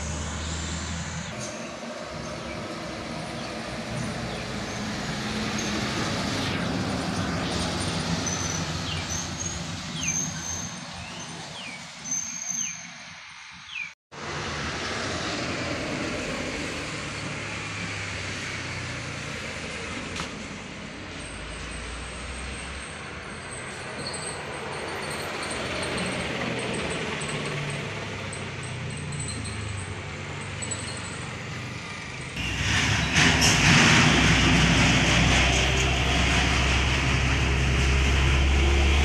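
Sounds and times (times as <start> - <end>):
truck engine passing: 0.0 - 11.8, 14.2 - 39.0.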